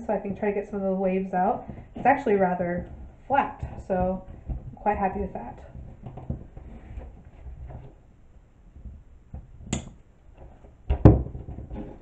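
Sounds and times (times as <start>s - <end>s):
faint rustling: 0.4s - 10.8s.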